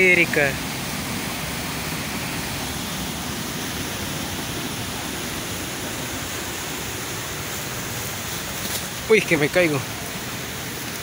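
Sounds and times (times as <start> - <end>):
creek rushing over boulders: 0.0 - 11.0.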